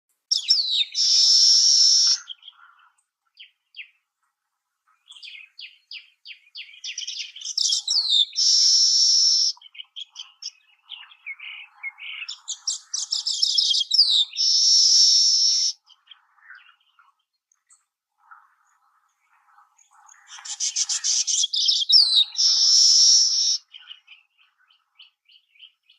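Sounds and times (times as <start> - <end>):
bird song with chattering ticks: 0.1 - 25.9.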